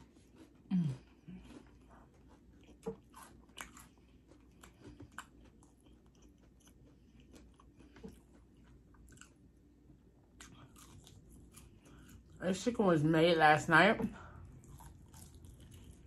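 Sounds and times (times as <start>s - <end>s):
chewing fried chicken: 0.0s - 12.7s, 14.2s - 16.0s.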